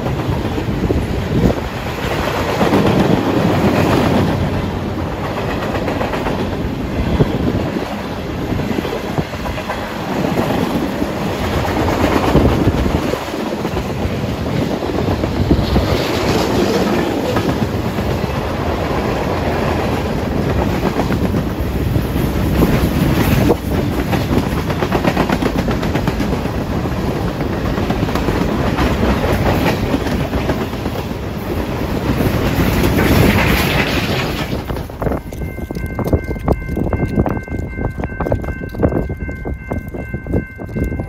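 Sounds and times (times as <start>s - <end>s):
steady train rumble: 0.0s - 41.0s
wheels clacking on rails: 0.0s - 41.0s.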